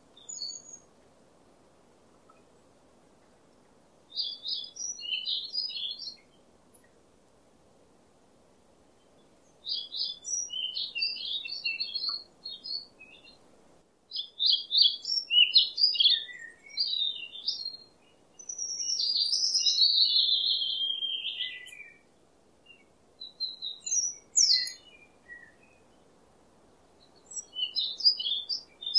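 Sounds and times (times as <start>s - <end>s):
small birds chirping: 0.0s - 1.0s, 2.1s - 7.0s, 9.0s - 28.9s.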